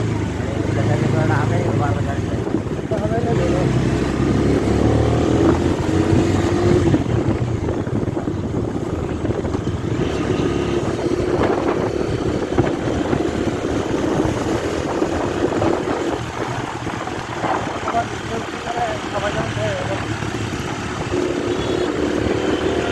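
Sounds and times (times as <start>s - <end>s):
motorcycle engine running: 0.0s - 22.9s
road noise: 0.0s - 22.9s.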